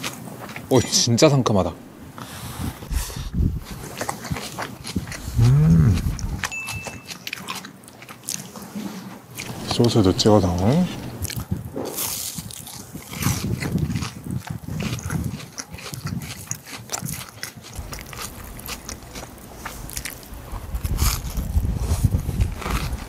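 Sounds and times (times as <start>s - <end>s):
chewing: 0.0s - 0.8s, 3.6s - 23.0s
crunching fried breading: 3.6s - 8.6s, 9.4s - 23.0s.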